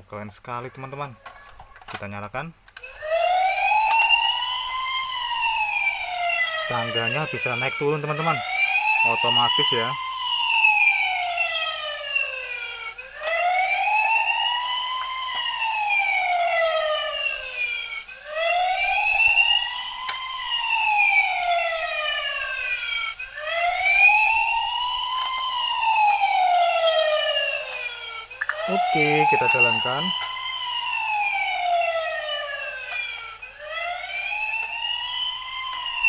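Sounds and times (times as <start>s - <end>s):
toy siren wailing: 0.5s - 1.9s, 2.8s - 36.0s.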